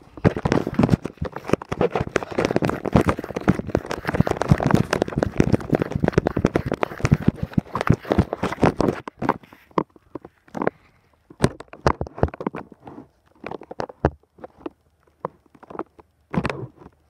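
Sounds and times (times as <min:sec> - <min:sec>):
phone handling noise: 0:00.0 - 0:17.0.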